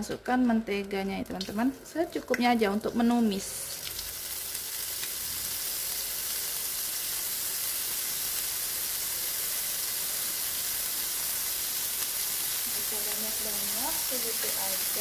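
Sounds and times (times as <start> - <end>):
butter sizzling in a wok: 1.2 - 15.0.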